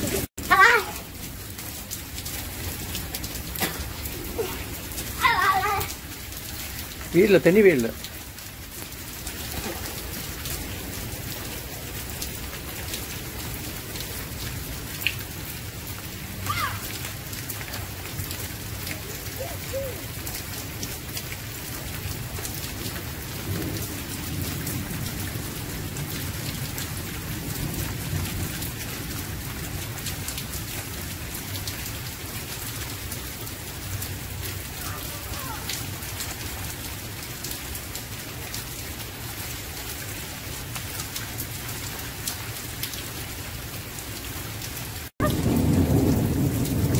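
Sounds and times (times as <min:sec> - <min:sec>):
rain pattering on pavement: 0:00.0 - 0:46.9.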